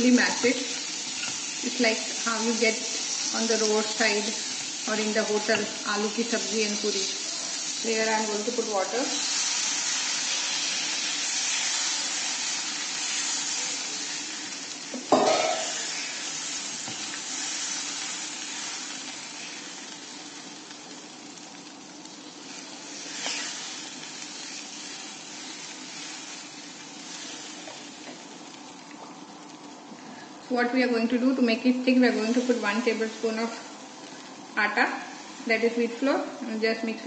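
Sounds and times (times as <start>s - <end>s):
water sizzling in hot pan: 0.0s - 37.0s.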